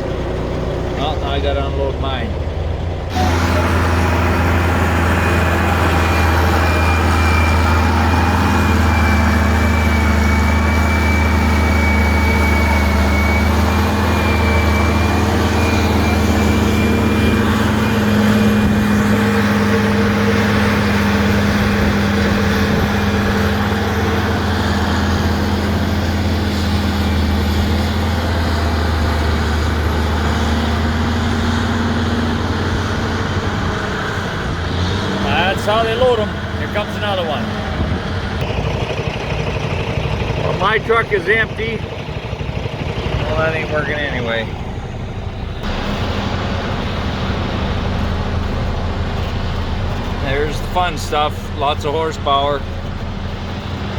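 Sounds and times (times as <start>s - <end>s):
heavy diesel truck engine: 0.0s - 53.9s.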